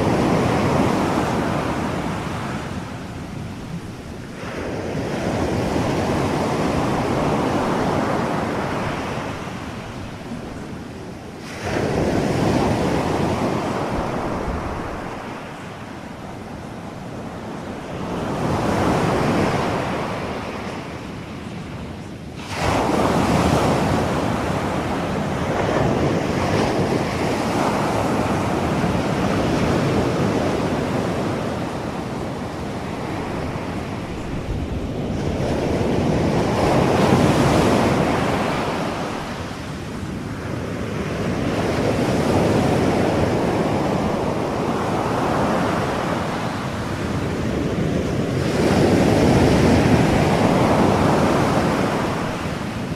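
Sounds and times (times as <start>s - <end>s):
ocean waves washing in: 0.0s - 52.9s.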